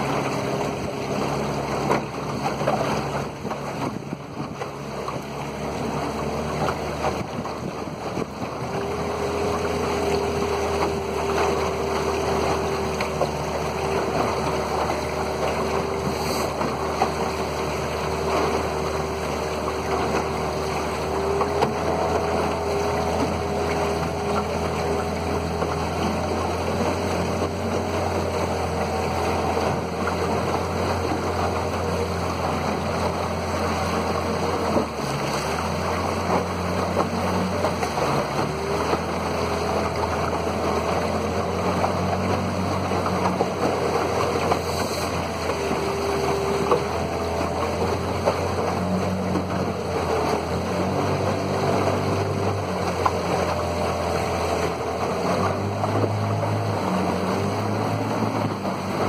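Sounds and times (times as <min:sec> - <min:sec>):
outboard motor running: 0:00.0 - 0:59.0
water rushing past hull: 0:00.0 - 0:59.0.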